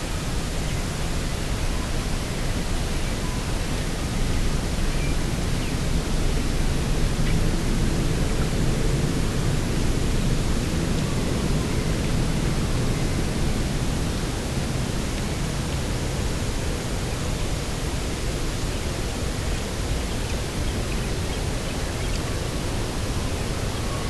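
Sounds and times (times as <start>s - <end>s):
wind: 0.0s - 24.0s.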